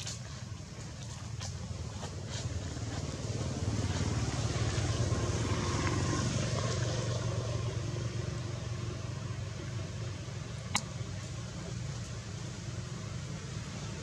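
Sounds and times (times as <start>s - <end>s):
passing vehicle engine hum: 0.0s - 14.0s.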